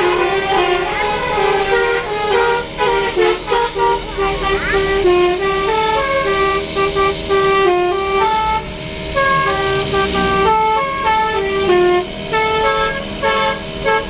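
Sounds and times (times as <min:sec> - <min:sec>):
vehicle musical horn tune: 0:00.0 - 0:14.0.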